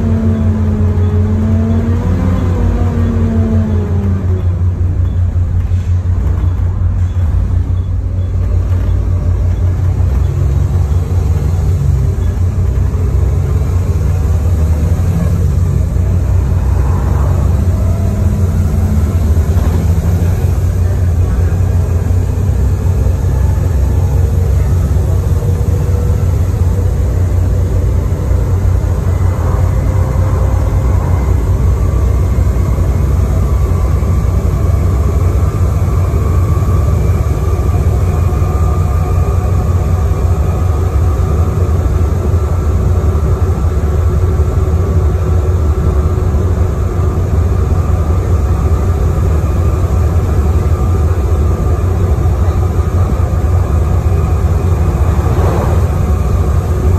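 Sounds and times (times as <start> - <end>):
bus engine and road noise: 0.0 - 56.9
faint whine: 0.0 - 56.9.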